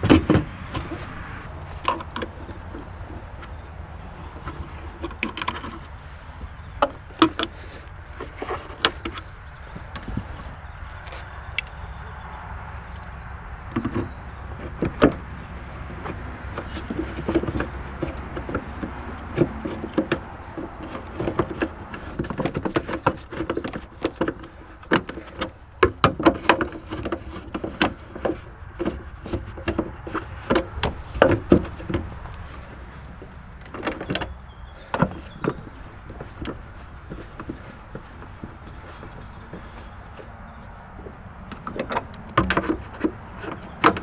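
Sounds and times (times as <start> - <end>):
clicks knocks and rattles: 0.0 - 44.0.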